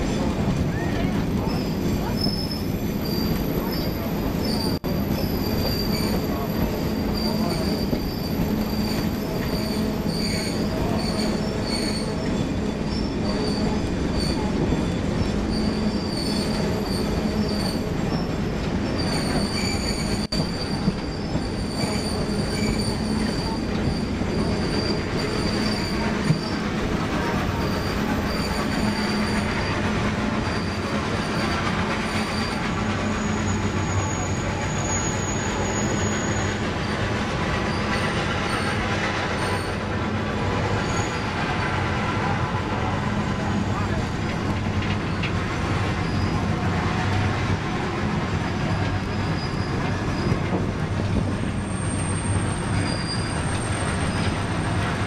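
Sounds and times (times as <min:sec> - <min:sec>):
train rumbling on rails: 0:00.0 - 0:55.0
train wheel squeals: 0:00.1 - 0:40.0, 0:40.6 - 0:55.0.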